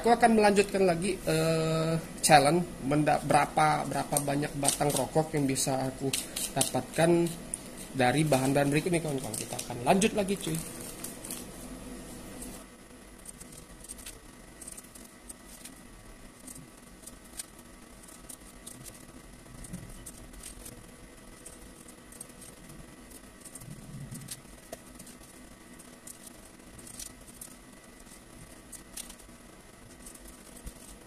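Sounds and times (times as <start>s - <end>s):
tobacco scratching and rustling: 1.6s - 31.0s.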